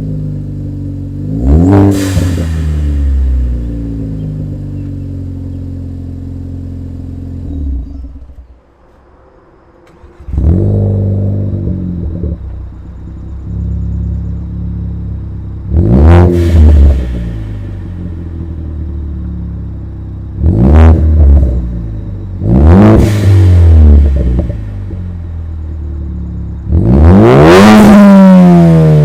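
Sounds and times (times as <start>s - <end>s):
car engine revving and idling: 0.0s - 29.0s.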